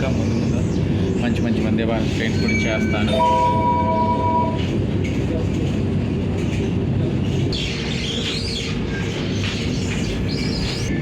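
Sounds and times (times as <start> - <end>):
electric train rumbling on rails: 0.0 - 11.0.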